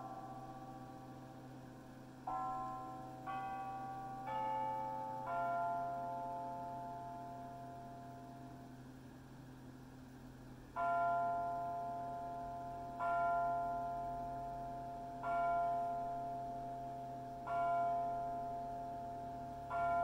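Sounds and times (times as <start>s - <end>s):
clock bell striking: 0.0s - 1.4s, 2.2s - 8.7s, 10.7s - 20.0s
faint steady hum: 0.0s - 20.0s.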